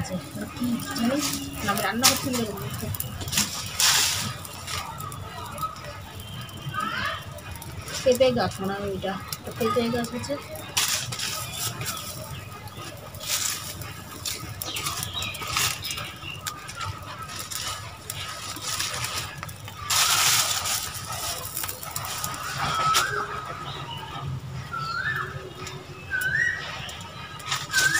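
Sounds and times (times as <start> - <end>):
dry leaves rustling and crackling: 0.0 - 27.9
fire crackling: 0.0 - 27.9.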